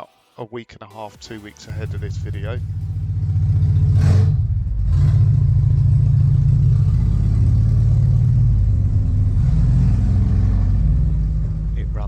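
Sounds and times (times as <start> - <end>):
car engine running: 1.7 - 12.0.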